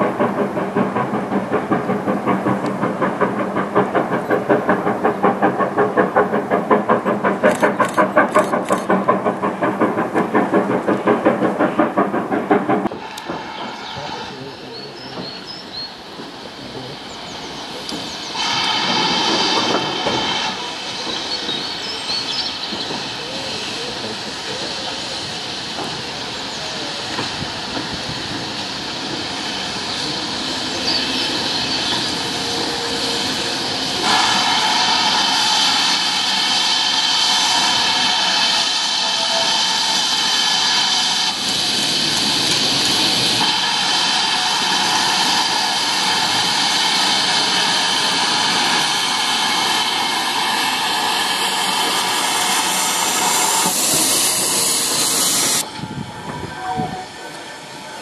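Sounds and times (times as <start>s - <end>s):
loud hiss of escaping steam: 0.0s - 58.0s
steam locomotive passing: 0.0s - 58.0s.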